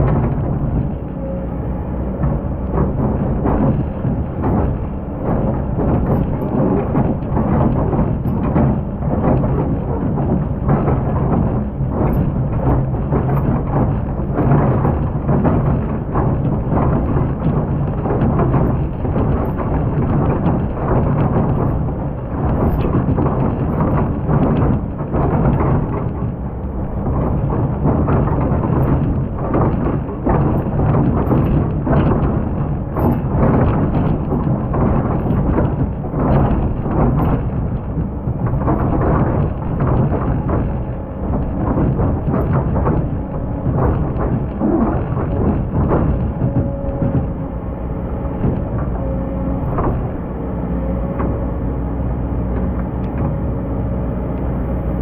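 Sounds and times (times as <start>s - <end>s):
excavator engine droning: 0.0s - 55.0s.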